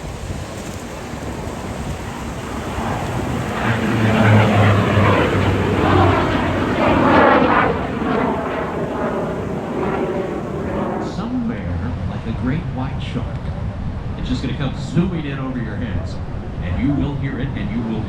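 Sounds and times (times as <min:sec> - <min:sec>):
plane engine drone flying past: 0:00.0 - 0:18.0.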